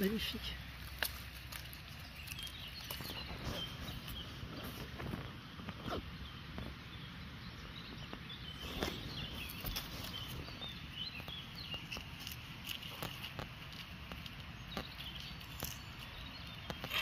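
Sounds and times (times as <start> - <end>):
dry leaves and twigs crackling: 0.0 - 7.0, 7.6 - 17.0
small birds chirping: 0.0 - 17.0.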